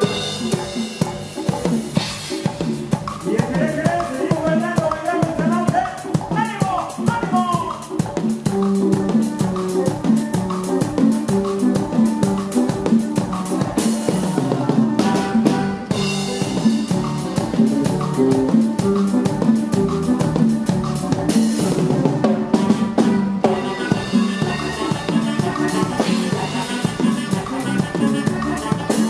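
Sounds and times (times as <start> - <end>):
band playing live: 0.0 - 29.0.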